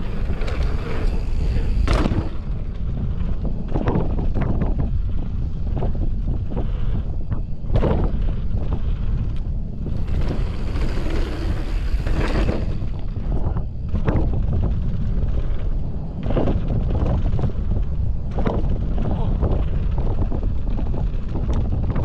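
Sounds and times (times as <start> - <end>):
bike rattling over rough ground: 0.0 - 22.0
wind buffeting microphone: 0.0 - 22.0.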